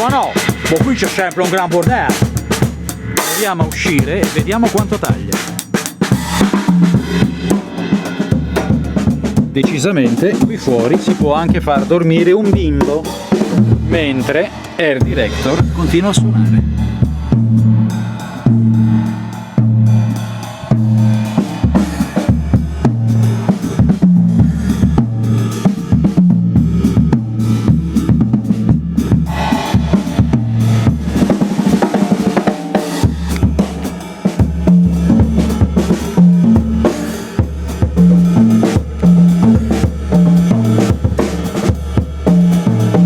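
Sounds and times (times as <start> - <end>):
acoustic drum kit groove: 0.0 - 43.0.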